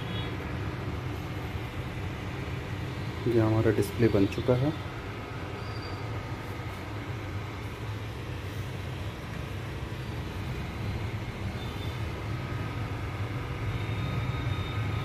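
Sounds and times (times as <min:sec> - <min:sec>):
computer fans whirring: 0:00.0 - 0:15.0.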